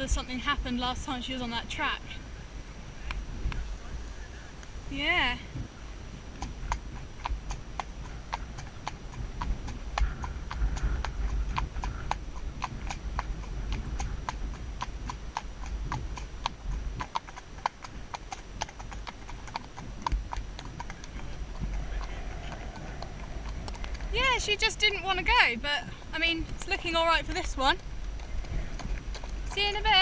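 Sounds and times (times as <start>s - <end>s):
hooves clip-clopping on tarmac: 0.0s - 2.3s, 3.0s - 30.0s
low rumble: 0.0s - 30.0s.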